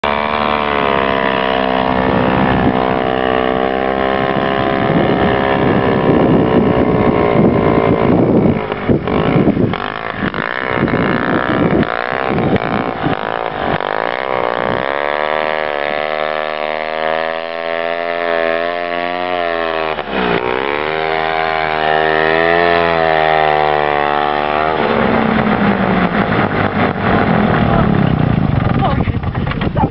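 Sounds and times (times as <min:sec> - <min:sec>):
snowmobile engine revving: 0:00.0 - 0:29.9.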